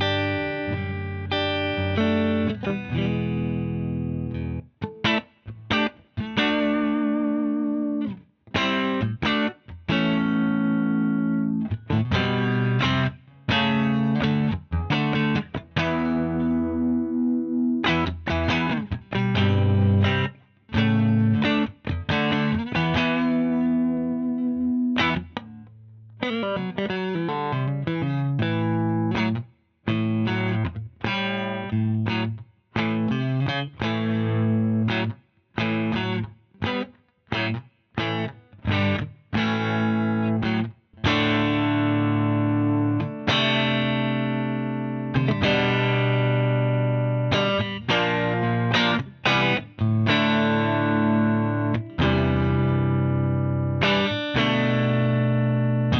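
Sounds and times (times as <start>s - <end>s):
electric guitar chords and phrases: 0.0s - 55.9s.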